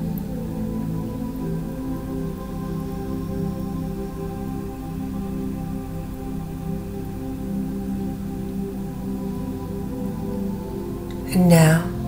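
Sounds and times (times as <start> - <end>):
calm ambient music: 0.0 - 12.0.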